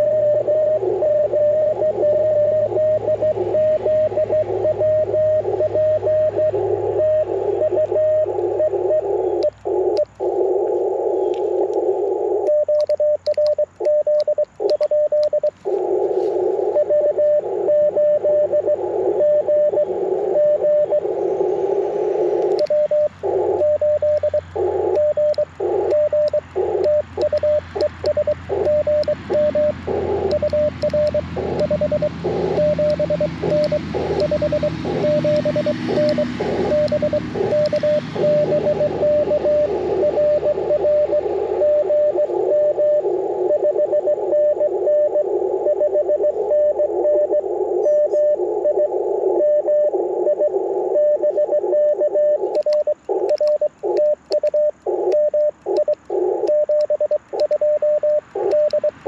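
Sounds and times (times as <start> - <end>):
morse code tone: 0.0 - 59.0
radio band noise hiss: 0.0 - 59.0.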